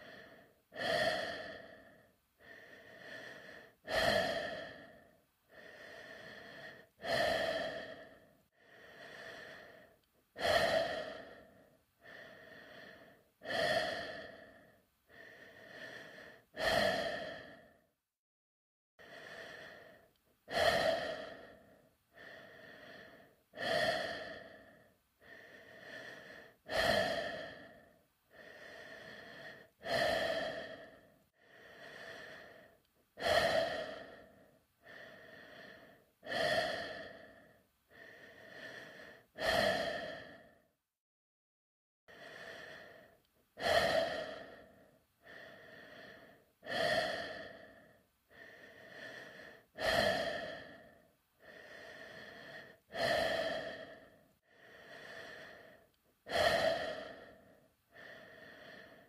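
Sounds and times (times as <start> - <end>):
person breathing in a helmet: 0.0 - 18.0, 19.0 - 40.8, 42.1 - 59.0.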